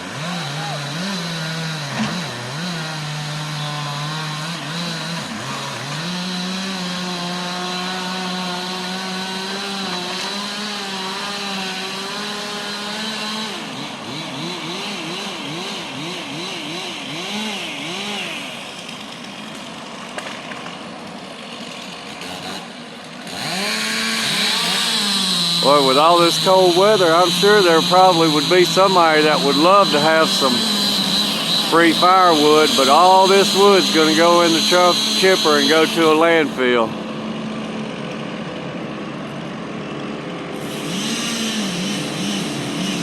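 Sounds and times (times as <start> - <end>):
chainsaw revving: 0.0 - 43.0.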